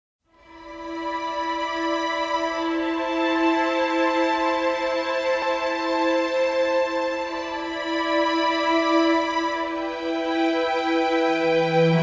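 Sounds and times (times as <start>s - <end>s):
background music held notes: 0.3s - 12.0s.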